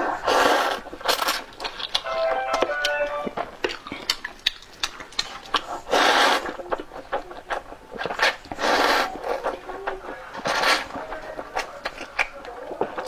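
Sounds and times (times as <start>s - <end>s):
noodles slurped: 0.0s - 2.0s, 3.8s - 13.0s
wet chewing clicks: 0.0s - 2.1s, 3.6s - 13.0s.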